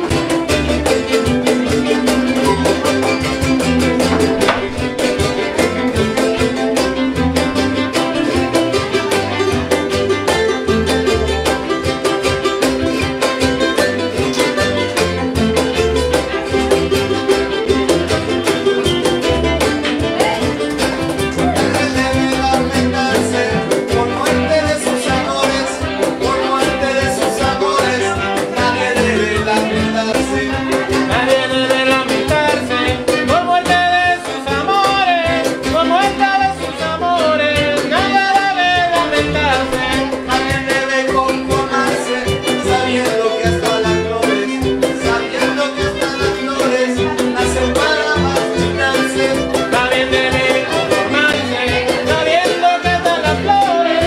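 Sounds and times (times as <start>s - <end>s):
cajon drum: 0.0s - 54.0s
jaranas strummed: 0.0s - 54.0s
upright bass: 0.0s - 54.0s
violin: 0.0s - 54.0s.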